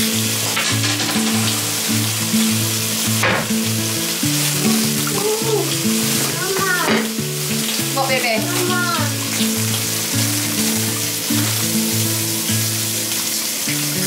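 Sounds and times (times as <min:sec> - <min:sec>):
bacon sizzling in a frying pan: 0:00.0 - 0:14.0.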